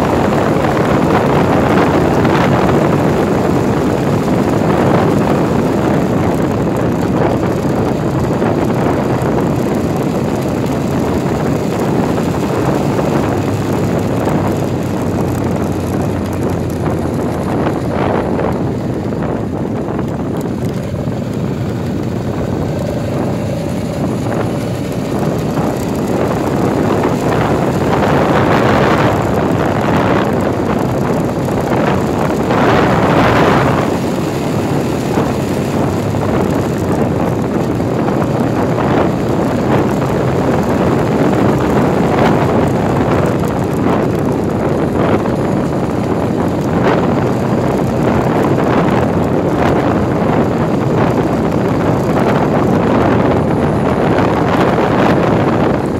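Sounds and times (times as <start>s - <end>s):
vehicle road noise: 0.0s - 55.9s
wind rushing on microphone: 0.0s - 55.9s.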